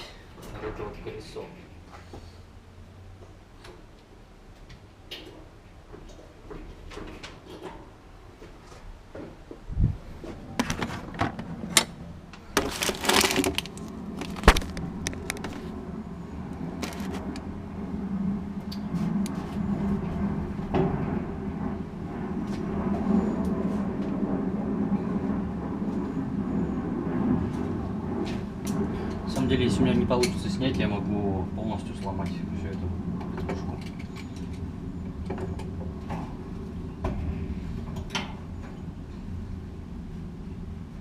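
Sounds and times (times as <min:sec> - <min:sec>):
steady mechanical hum: 0:00.0 - 0:41.0.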